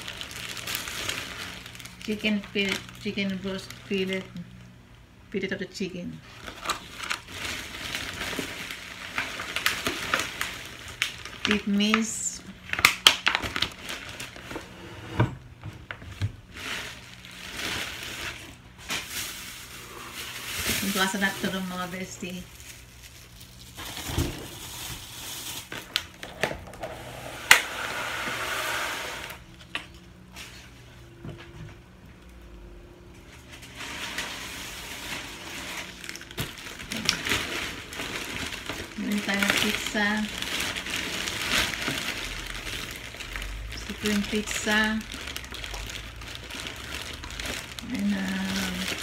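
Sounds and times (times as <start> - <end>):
plastic bags rustling: 0.0 - 4.8, 6.2 - 31.2, 33.2 - 49.0.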